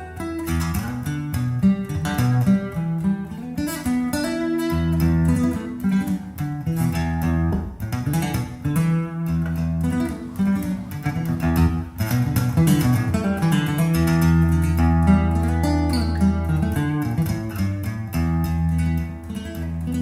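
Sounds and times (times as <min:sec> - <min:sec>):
guitar song over loudspeakers: 0:00.0 - 0:20.0.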